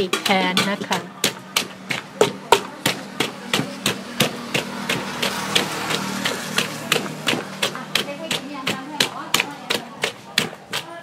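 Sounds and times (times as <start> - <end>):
wooden pestle pounding in mortar: 0.0 - 11.0.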